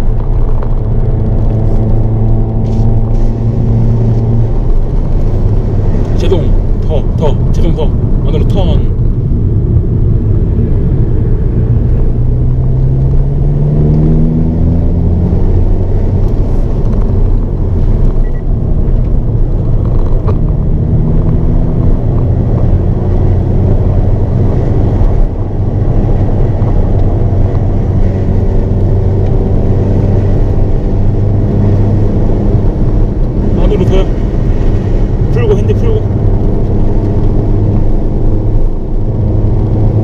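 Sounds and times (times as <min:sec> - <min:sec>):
car engine accelerating: 0:00.0 - 0:40.0
tyre and road noise: 0:00.0 - 0:40.0.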